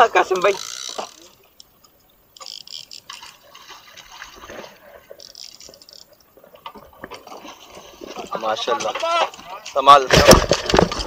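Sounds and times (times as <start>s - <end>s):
water splashing and dripping: 0.4s - 11.0s.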